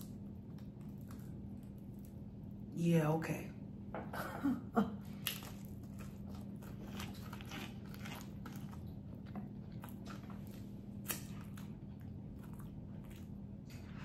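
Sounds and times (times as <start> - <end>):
crunchy chewing: 0.0 - 2.6, 5.0 - 14.0
steady low hum: 0.0 - 14.0.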